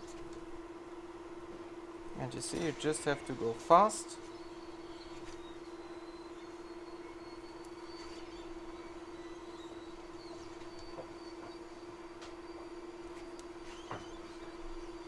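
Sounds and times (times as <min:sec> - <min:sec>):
blower hum: 0:00.0 - 0:15.0.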